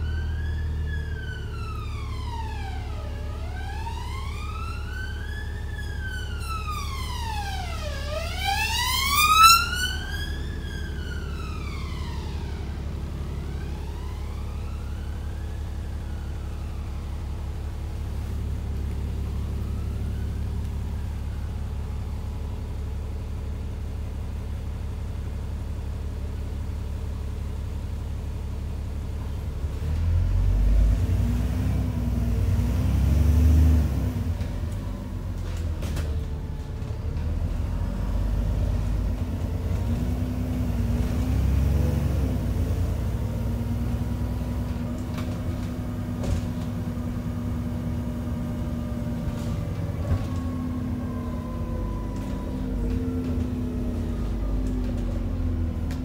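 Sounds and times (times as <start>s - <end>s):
bus diesel engine drone: 0.0s - 56.0s
emergency siren wailing: 0.0s - 56.0s.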